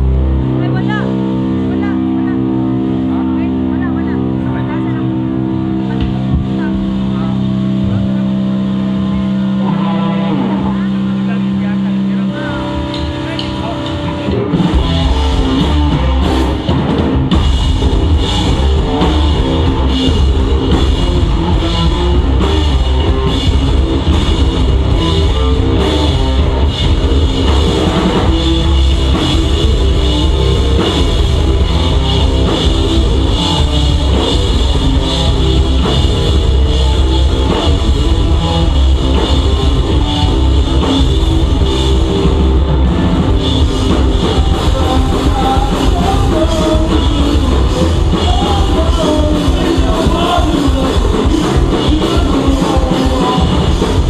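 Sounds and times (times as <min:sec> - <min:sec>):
driving drum kit: 0:00.0 - 0:54.0
electric guitars: 0:00.0 - 0:54.0
pop punk band playing live: 0:00.0 - 0:54.0.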